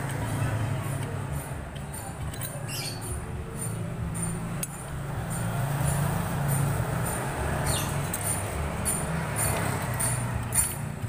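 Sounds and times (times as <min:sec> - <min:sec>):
metal clutch plates clinking: 0:00.0 - 0:11.0.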